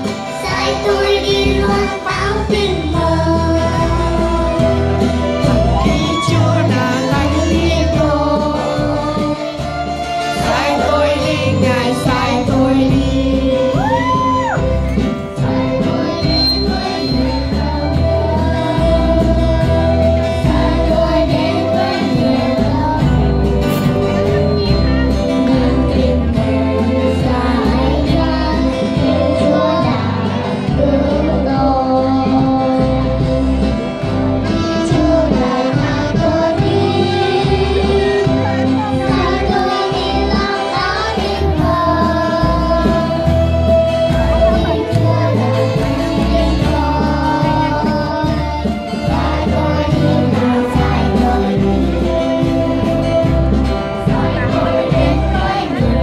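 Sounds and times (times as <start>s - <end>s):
children's choir singing a hymn: 0.0s - 56.0s
instrumental accompaniment: 0.0s - 56.0s.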